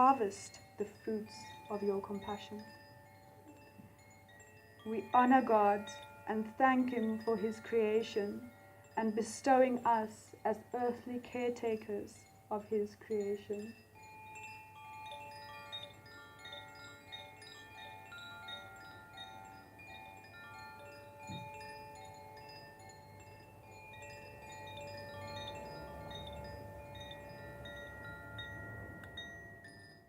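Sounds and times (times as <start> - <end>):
wind chimes ringing: 0.0 - 30.0.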